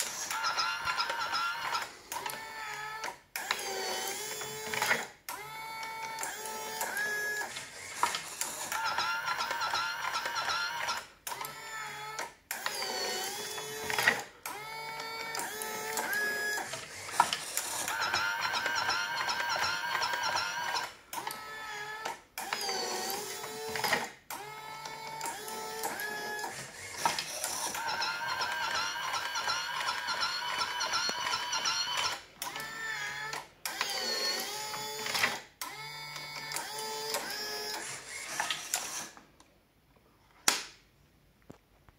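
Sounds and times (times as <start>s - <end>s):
machine motors whining: 0.0s - 39.2s.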